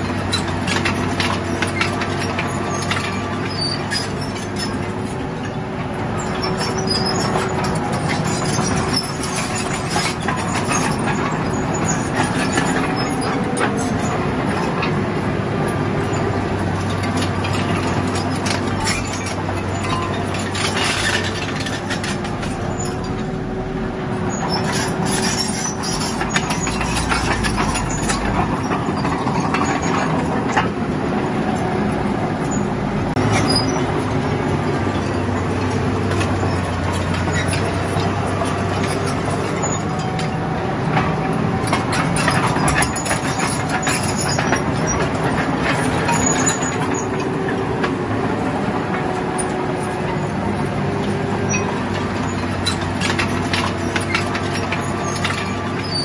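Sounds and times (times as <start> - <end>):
bulldozer diesel engine under load: 0.0 - 56.0
tracks clanking: 0.0 - 56.0.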